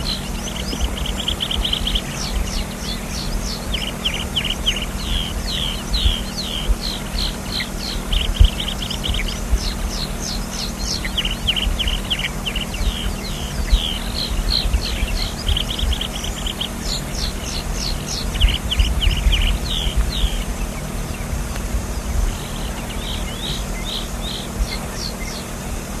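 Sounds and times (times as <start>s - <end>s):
bird singing high trills: 0.0s - 25.6s
low steady rumble: 0.0s - 26.0s.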